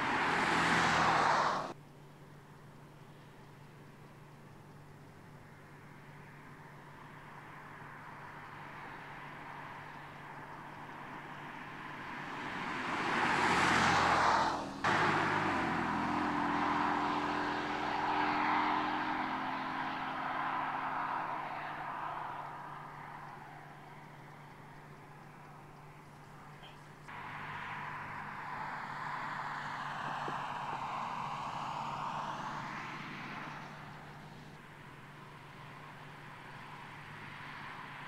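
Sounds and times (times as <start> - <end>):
car engine driving past: 0.0 - 1.8, 8.7 - 38.0
tyres on the road: 0.0 - 38.0.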